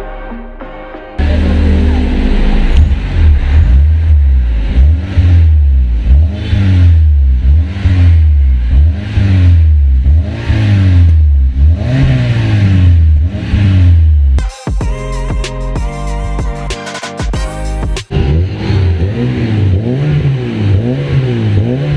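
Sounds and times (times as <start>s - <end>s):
car engine revving: 1.2s - 14.4s, 17.5s - 21.9s.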